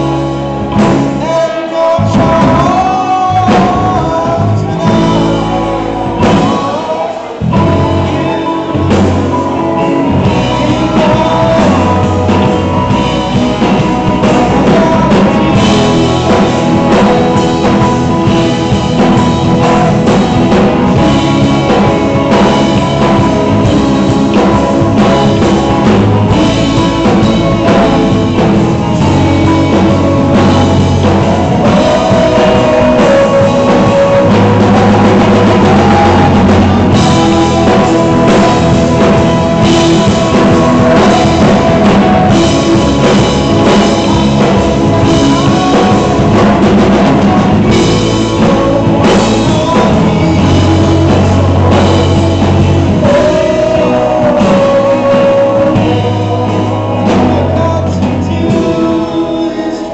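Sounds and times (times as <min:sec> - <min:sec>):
live rock band playing: 0:00.0 - 0:59.9
voices singing: 0:00.0 - 0:59.9.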